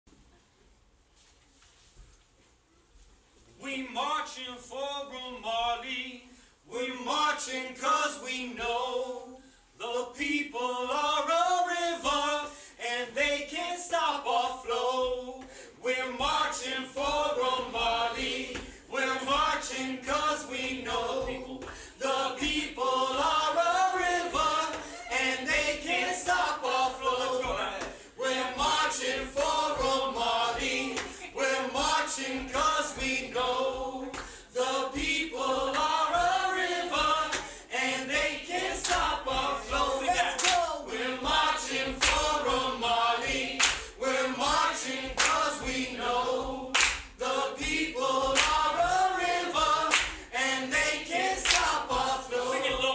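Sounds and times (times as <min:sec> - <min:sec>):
group singing a cappella: 0:03.7 - 0:52.9.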